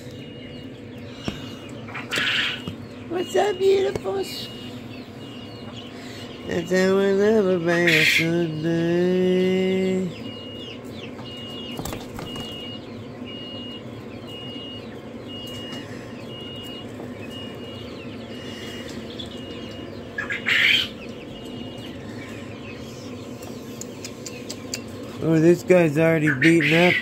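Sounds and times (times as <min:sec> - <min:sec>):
young quail chirping and peeping: 0:00.0 - 0:27.0.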